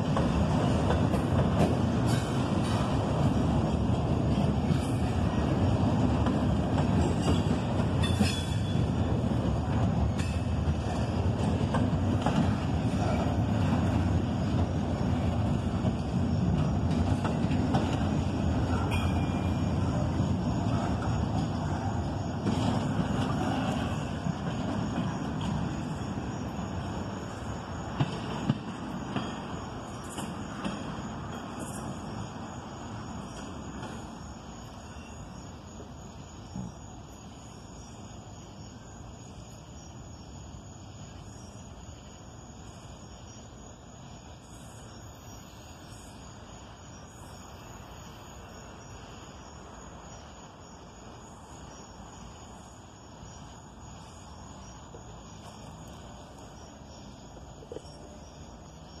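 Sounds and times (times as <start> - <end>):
crickets chirping: 0.0 - 59.0
freight train rumble: 0.0 - 59.0.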